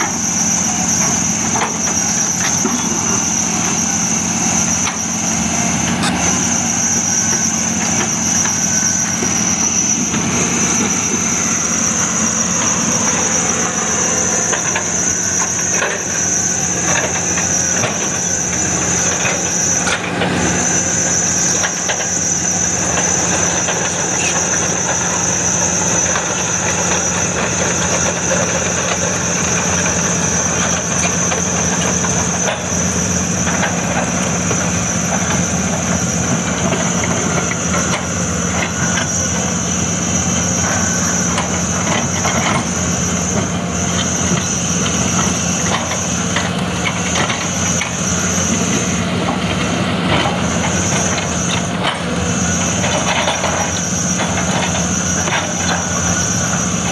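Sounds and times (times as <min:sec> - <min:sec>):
excavator diesel engine: 0:00.0 - 0:56.9
high-pitched whine: 0:00.0 - 0:56.9.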